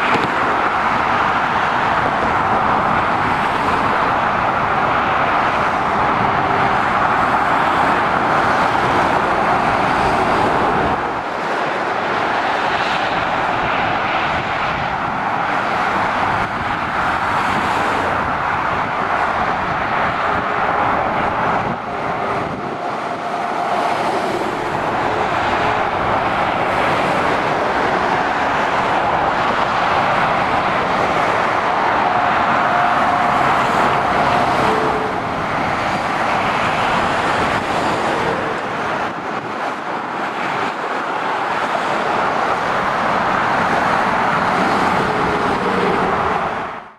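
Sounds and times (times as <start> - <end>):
motorway traffic tyre roar: 0.0 - 46.9.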